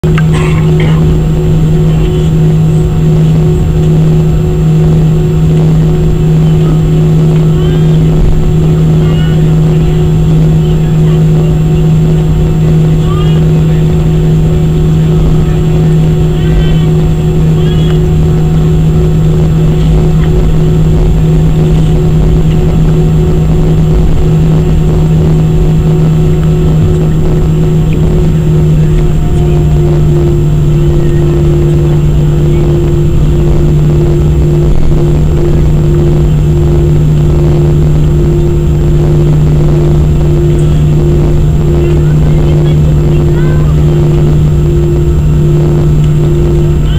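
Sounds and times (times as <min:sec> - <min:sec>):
idling jet engines drone: 0:00.0 - 0:46.9.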